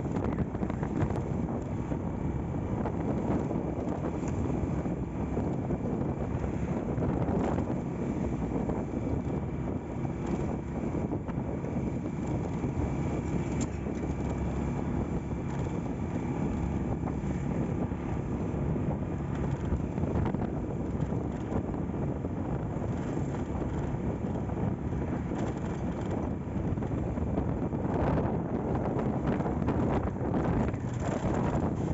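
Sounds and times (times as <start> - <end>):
motorcycle engine running: 0.0 - 31.9
wind rushing over microphone: 0.0 - 31.9.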